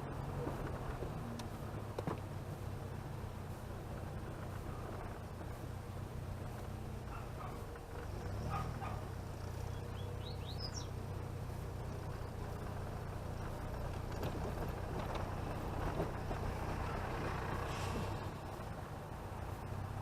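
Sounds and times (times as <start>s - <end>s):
car engine hum and road noise: 0.0s - 20.0s.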